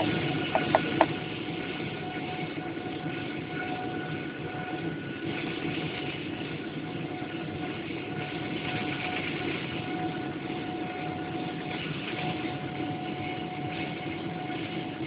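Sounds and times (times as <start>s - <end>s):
jet engine rushing rumble: 0.0s - 14.1s.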